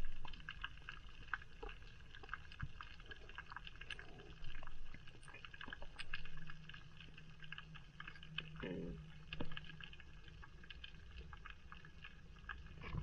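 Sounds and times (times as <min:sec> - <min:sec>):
low steady underwater background: 0:00.0 - 0:13.0
sharp underwater clicks and crackles: 0:00.0 - 0:13.0.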